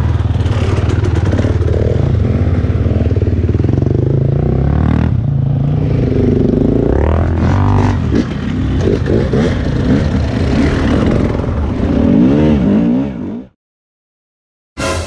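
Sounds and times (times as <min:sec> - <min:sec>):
dirt bike engines revving: 0:00.0 - 0:13.6.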